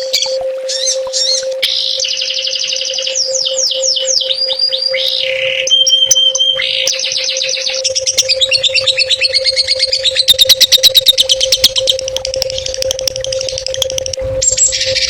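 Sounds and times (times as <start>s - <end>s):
steady low hum: 0.0s - 15.0s
songbird chattering song: 0.1s - 15.0s.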